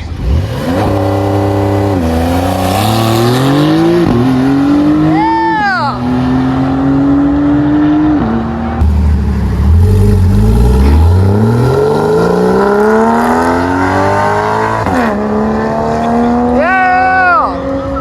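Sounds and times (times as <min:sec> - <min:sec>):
car engine accelerating hard: 0:00.0 - 0:05.2, 0:06.0 - 0:16.7.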